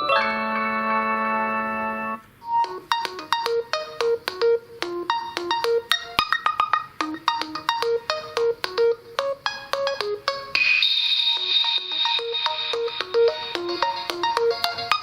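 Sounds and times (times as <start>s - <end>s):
electronic phone ringtone: 0.0s - 15.0s.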